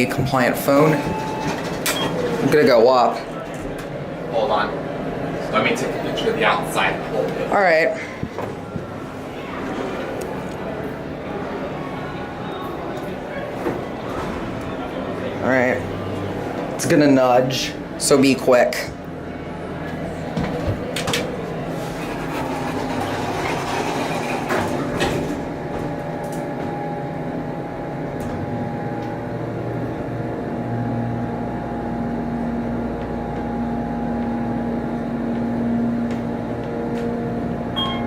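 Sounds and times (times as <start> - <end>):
elevator cab hum and whine: 0.0 - 38.0
elevator doors shutting: 0.0 - 38.0.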